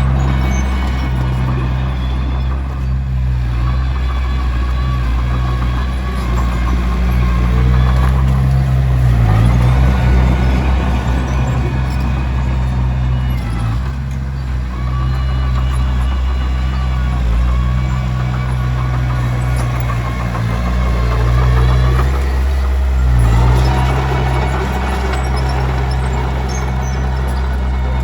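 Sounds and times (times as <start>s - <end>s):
bulldozer diesel engine under load: 0.0s - 28.0s
bulldozer pushing stone: 0.0s - 28.0s.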